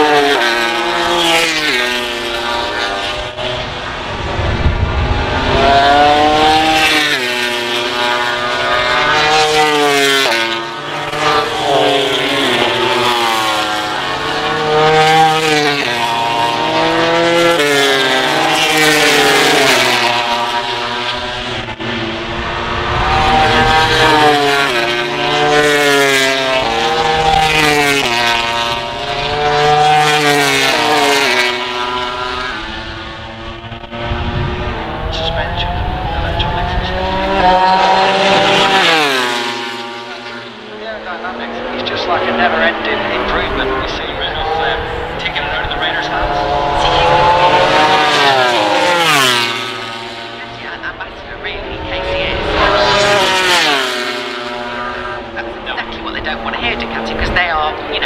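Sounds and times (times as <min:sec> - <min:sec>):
race motorcycles at full throttle: 0:00.0 - 0:58.0.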